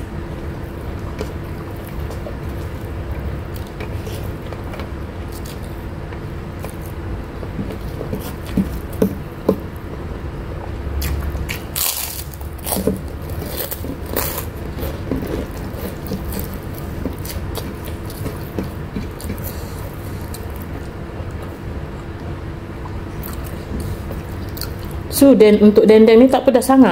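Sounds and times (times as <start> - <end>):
steady low hum: 0.0 - 26.9
chewing and crunching: 0.6 - 9.5, 10.6 - 22.2, 22.8 - 25.0.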